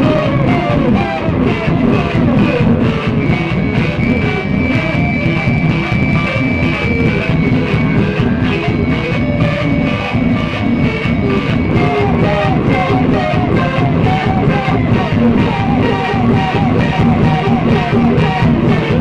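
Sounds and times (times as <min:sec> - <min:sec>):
rock music: 0:00.0 - 0:19.0.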